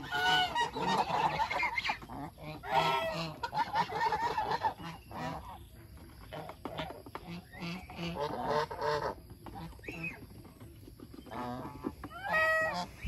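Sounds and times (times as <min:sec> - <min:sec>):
geese honking: 0:00.0 - 0:10.3, 0:11.2 - 0:13.0.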